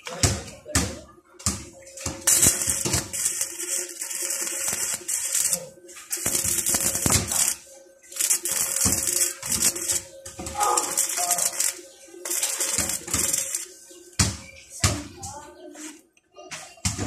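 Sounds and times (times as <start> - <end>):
welding arc crackling: 1.4 - 15.2.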